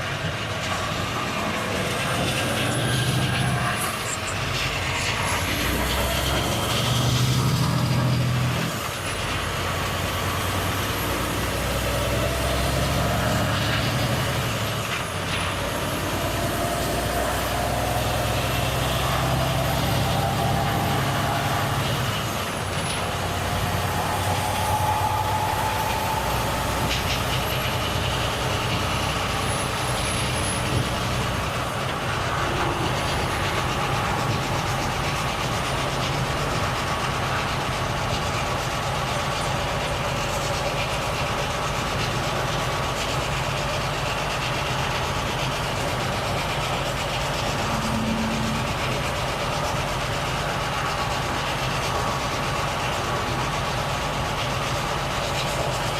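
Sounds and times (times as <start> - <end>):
road and tyre rumble: 0.0 - 55.9
truck engine drone: 0.0 - 55.9.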